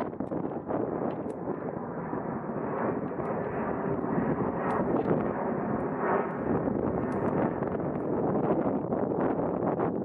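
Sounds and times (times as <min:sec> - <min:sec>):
jet engine drone: 0:00.0 - 0:10.0.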